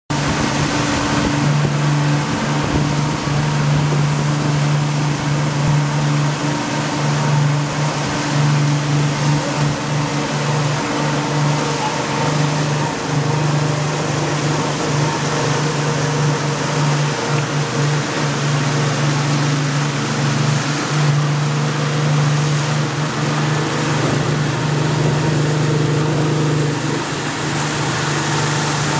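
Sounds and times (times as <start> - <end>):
motorboat engine humming: 0.1 - 28.9
wind and water rushing: 0.1 - 28.9.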